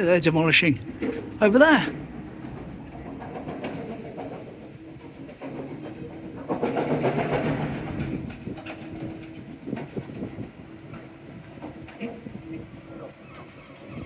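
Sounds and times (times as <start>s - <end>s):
heavy engine humming: 0.0s - 14.0s.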